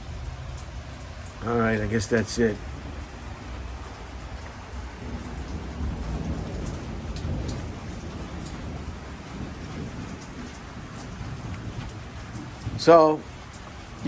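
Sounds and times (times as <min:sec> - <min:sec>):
rain pattering: 0:00.0 - 0:14.0
raindrops ticking: 0:00.0 - 0:14.0
thunder rumbling: 0:00.0 - 0:14.0.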